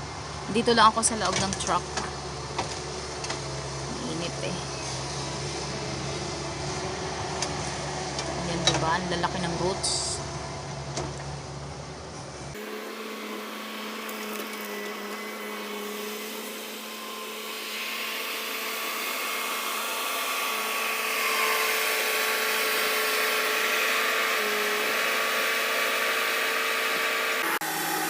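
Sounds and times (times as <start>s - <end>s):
skid steer engine whining: 0.0s - 28.0s.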